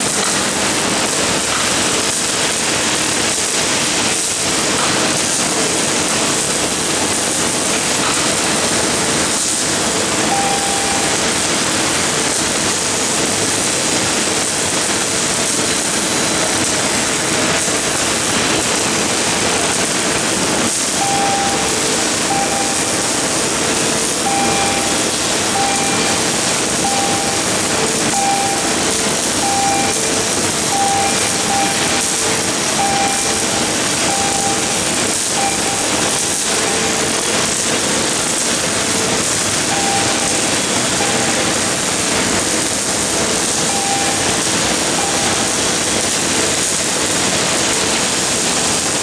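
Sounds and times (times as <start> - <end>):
welding arc crackling hiss: 0.0 - 49.0.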